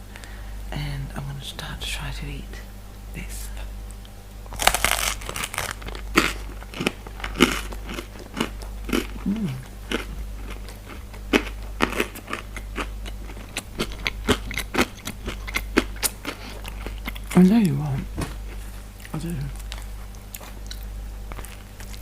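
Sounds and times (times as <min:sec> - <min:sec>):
crunchy wet chewing: 0:03.9 - 0:22.0.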